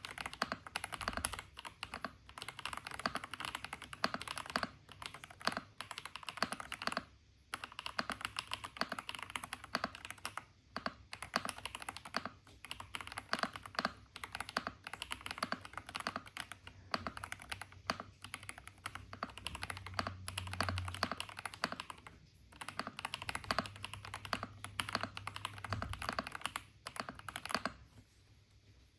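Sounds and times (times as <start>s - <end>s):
mechanical keyboard typing: 0.0s - 27.9s.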